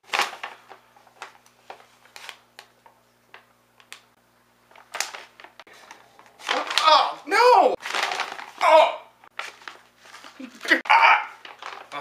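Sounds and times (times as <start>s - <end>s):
paper bags rustling: 0.0s - 3.5s, 4.7s - 12.0s.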